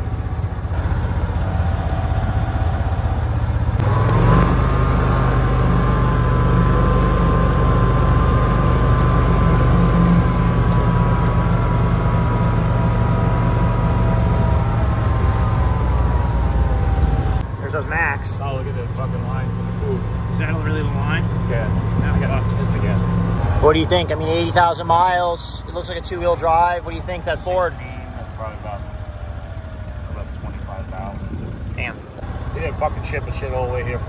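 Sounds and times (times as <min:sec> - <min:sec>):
utility cart motor whining: 0:00.0 - 0:34.0.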